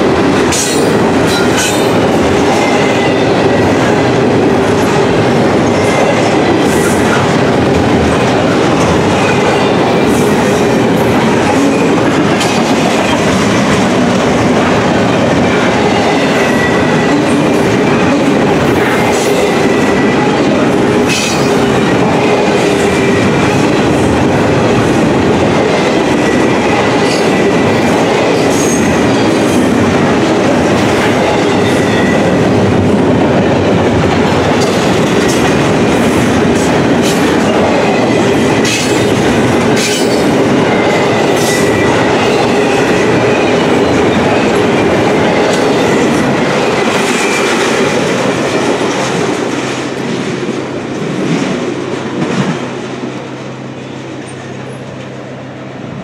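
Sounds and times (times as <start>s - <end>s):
train wheels clacking over rail joints: 0.0s - 52.6s.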